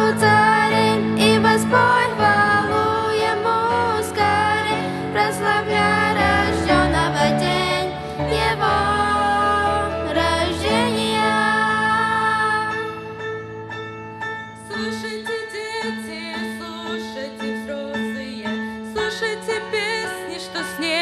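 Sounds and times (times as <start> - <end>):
women singing: 0.0 - 13.0, 14.7 - 21.0
grand piano playing: 0.0 - 21.0.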